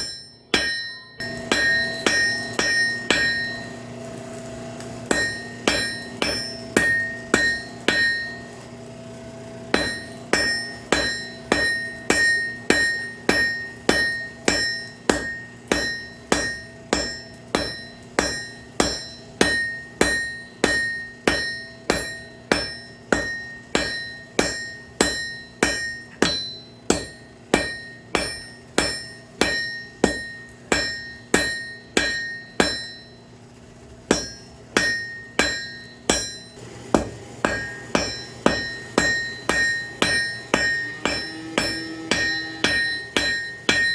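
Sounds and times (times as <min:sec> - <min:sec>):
hammer ringing on anvil: 0:00.0 - 0:03.9, 0:05.0 - 0:08.6, 0:09.7 - 0:33.3, 0:34.1 - 0:43.9.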